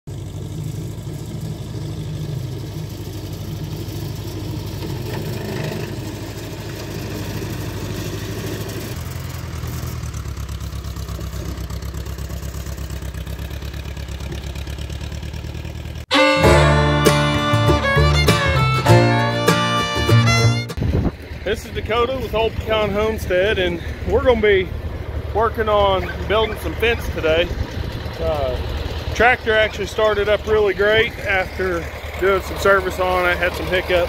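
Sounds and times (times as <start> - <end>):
front loader pushing dirt: 0.1 - 34.0
tractor diesel engine running: 0.1 - 34.0.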